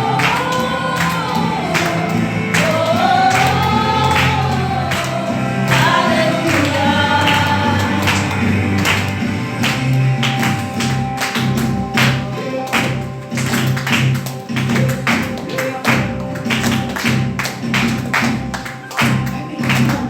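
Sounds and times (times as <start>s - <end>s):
sustained bass notes: 0.0s - 20.0s
upbeat praise band music: 0.0s - 20.0s.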